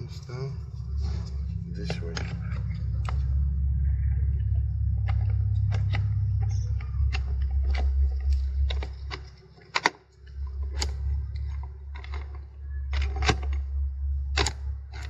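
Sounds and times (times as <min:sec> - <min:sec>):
low steady hum: 0:00.0 - 0:15.0
metal and plastic parts clicking: 0:01.2 - 0:15.0.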